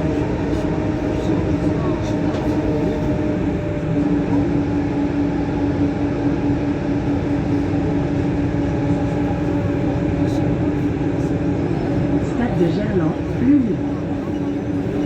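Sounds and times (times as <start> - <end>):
metro train rumble: 0.0 - 15.0
train motor hum: 0.0 - 15.0.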